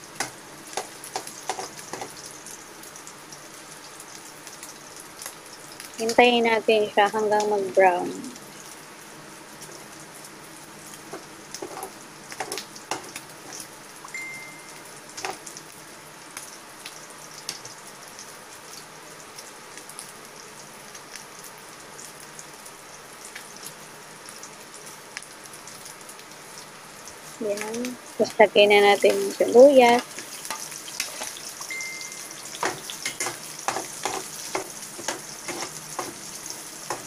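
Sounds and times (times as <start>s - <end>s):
oil crackles and pops: 0.0s - 6.2s, 7.1s - 14.2s, 14.9s - 28.2s, 29.0s - 37.0s
food sizzling in a pan: 0.0s - 37.0s.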